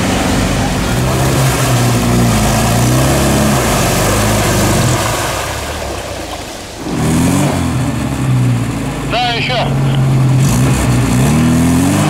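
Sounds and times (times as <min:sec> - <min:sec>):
car engine revving under load: 0:00.0 - 0:12.0.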